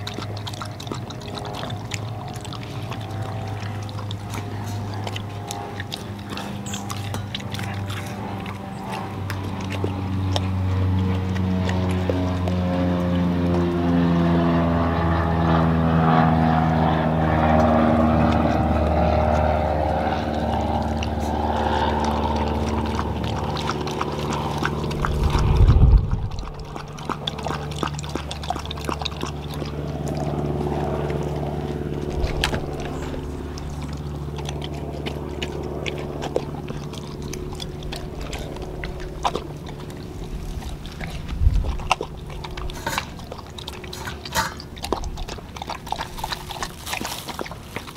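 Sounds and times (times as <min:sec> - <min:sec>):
dog chewing and lapping: 0:00.0 - 0:47.9
engine drone: 0:00.0 - 0:47.9.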